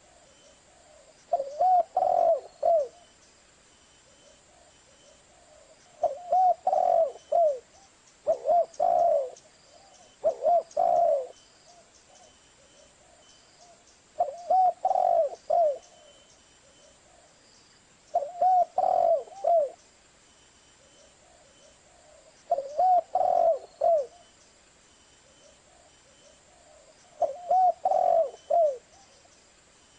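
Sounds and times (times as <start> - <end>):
dove cooing: 0.0 - 3.1, 4.1 - 17.4, 18.1 - 19.8, 20.8 - 24.3, 25.2 - 29.3.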